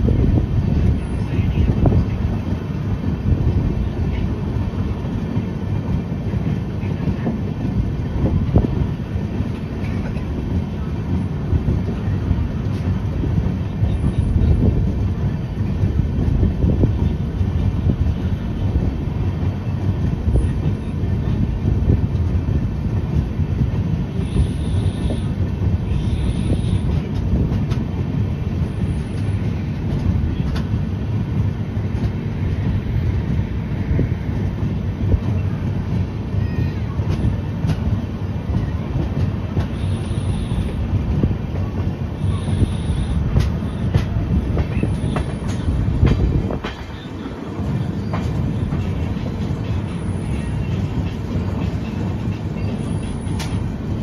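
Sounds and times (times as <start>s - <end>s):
wheel and rail rumble: 0.0s - 54.0s.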